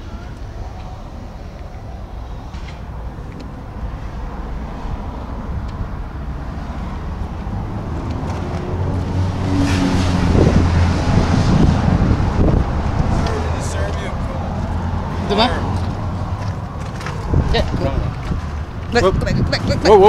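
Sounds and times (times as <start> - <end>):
motor vehicle rumble: 0.0 - 20.0
wind on microphone: 0.5 - 20.0.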